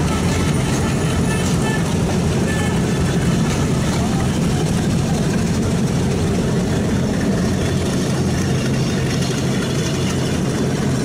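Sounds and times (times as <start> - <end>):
locomotive engine droning: 0.0 - 11.0.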